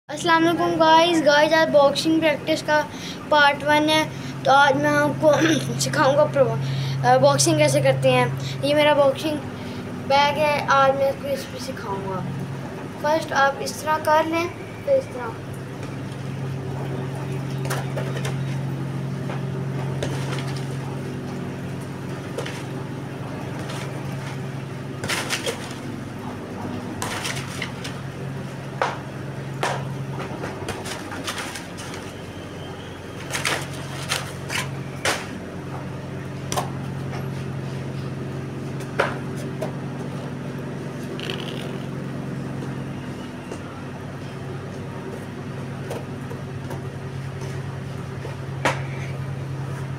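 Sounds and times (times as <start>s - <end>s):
steady low hum: 0.1s - 49.9s.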